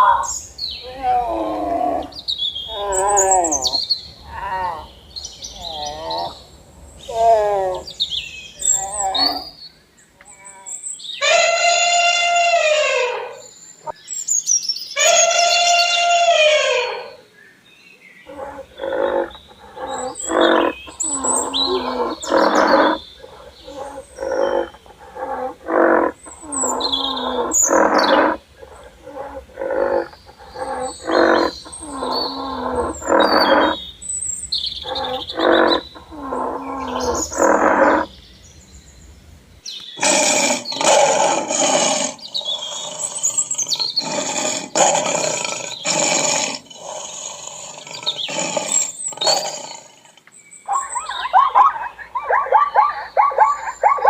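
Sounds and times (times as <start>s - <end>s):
wild animal calling: 0.0s - 9.6s, 10.2s - 14.0s, 15.0s - 17.3s, 18.2s - 38.2s, 40.0s - 54.0s
faint birds chirping: 0.0s - 54.0s.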